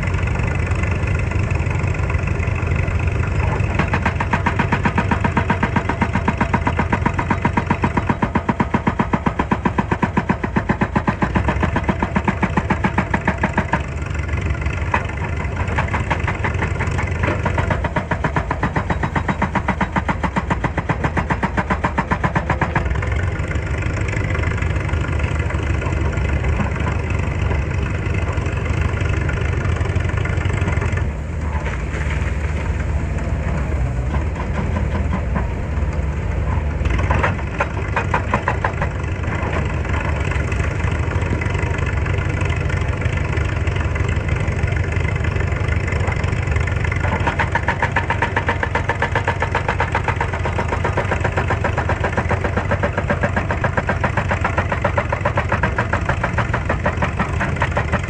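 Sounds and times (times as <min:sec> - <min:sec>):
excavator diesel engine throbbing: 0:00.0 - 0:58.0.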